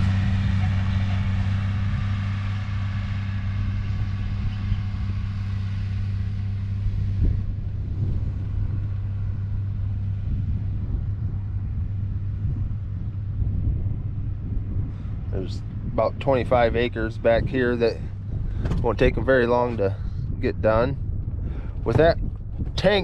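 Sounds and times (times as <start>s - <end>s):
engine humming: 0.0s - 23.0s
high whine: 0.0s - 23.0s
wind buffeting microphone: 0.0s - 23.0s.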